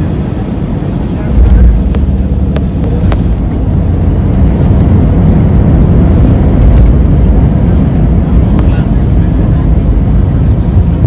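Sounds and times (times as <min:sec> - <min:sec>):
airplane engines rumbling: 0:00.0 - 0:11.0.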